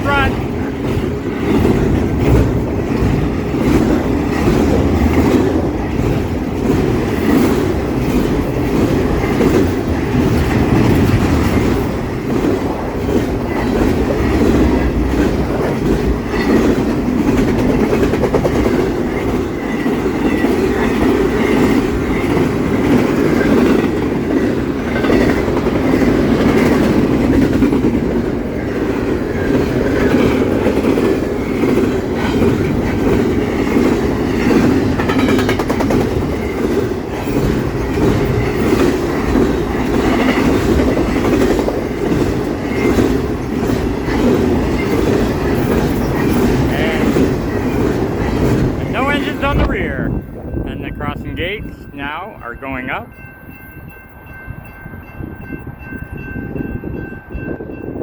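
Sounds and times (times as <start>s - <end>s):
freight train rumbling past: 0.0s - 58.0s
wheels clacking over rail joints: 0.5s - 50.2s.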